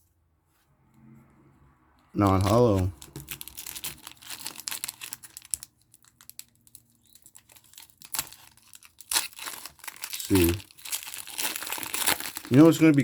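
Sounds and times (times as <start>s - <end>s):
foil wrapper crinkling: 2.4s - 13.0s.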